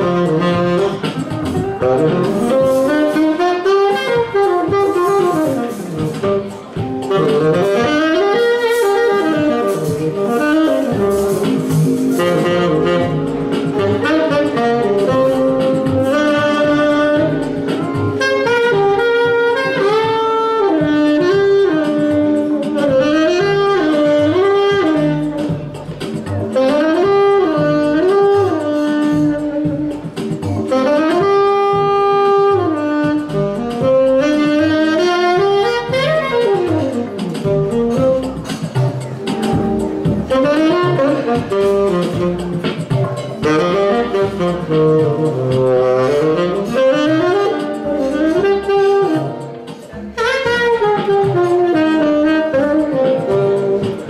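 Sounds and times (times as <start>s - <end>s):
lounge backing track: 0.0s - 54.0s
tenor saxophone jazz melody: 0.0s - 54.0s.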